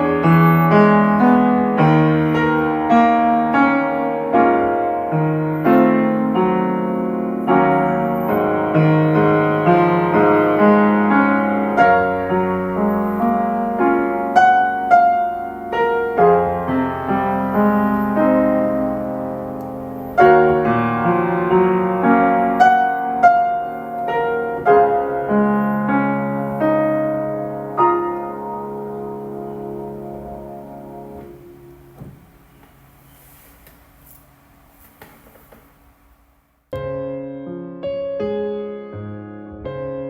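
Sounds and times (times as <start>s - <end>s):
solo piano piece: 0.0s - 40.0s.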